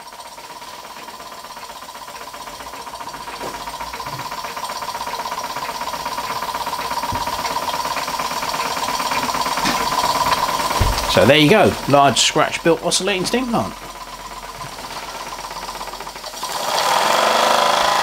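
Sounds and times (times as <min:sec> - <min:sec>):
model steam engine exhaust beating: 0:00.0 - 0:18.0.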